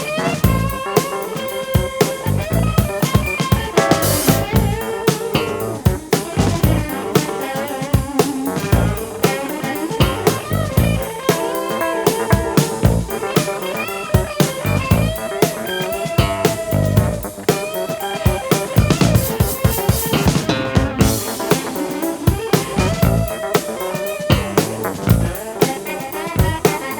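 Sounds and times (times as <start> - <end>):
guitar: 0.0 - 26.9
steady drum beat: 0.0 - 26.9.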